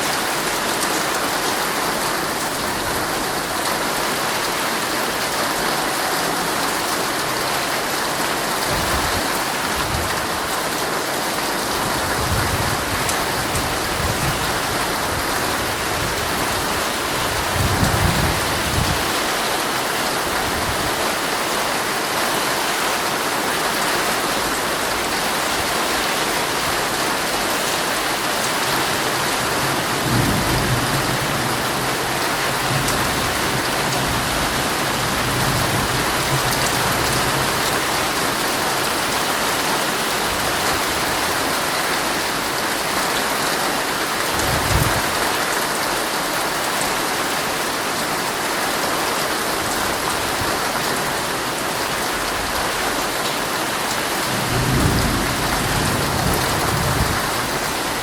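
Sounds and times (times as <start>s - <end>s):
heavy rain on a tent: 0.0s - 58.0s.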